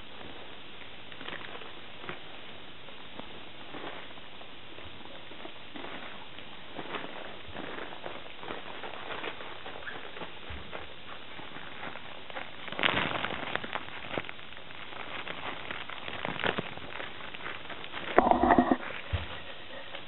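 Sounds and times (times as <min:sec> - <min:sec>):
fabric tunnel crinkling and rustling: 0:00.0 - 0:18.2.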